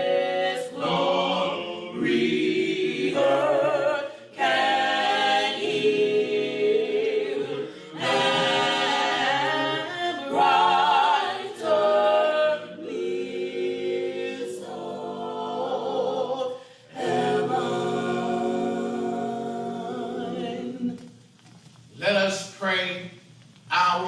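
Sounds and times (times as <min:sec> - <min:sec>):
choir singing a cappella: 0:00.0 - 0:21.2.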